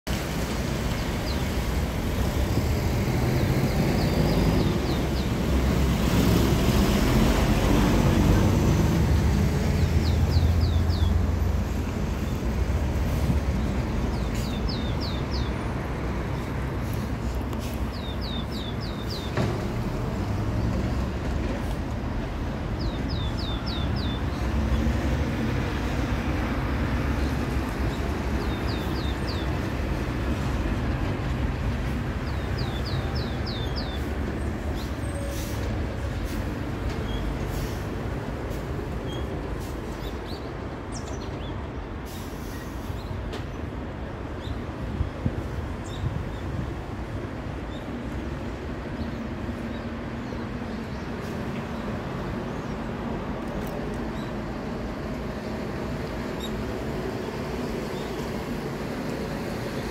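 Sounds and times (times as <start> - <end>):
low road traffic rumble: 0.1 - 59.9.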